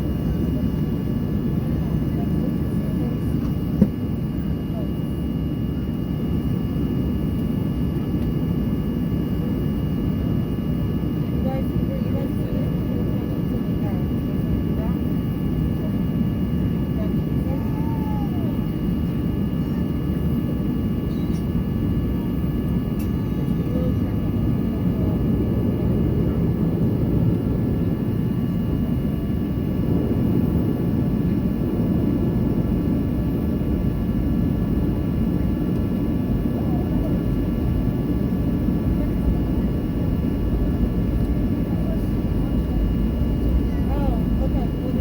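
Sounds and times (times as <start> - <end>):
faint whining tones: 0.0 - 45.0
jet engines idling: 0.0 - 45.0.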